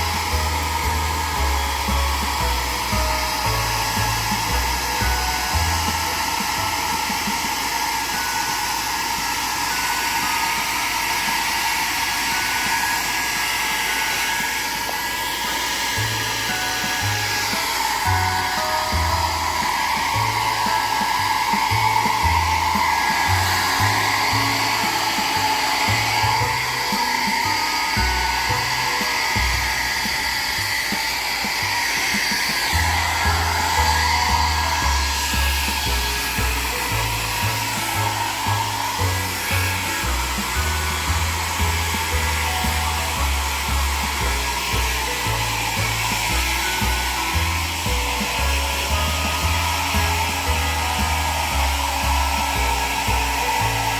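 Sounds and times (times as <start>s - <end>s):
background music with bass: 0.0s - 8.3s, 15.9s - 53.9s
hair dryer blowing: 0.0s - 53.9s.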